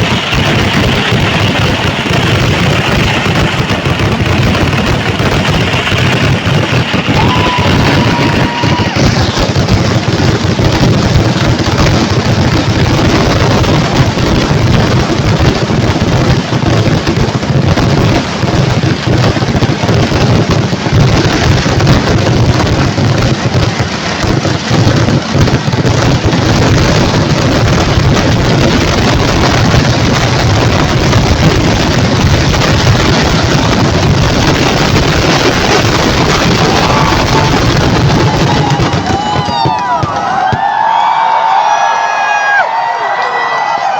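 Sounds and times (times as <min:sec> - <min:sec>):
firecrackers banging rapidly: 0:00.0 - 0:43.9.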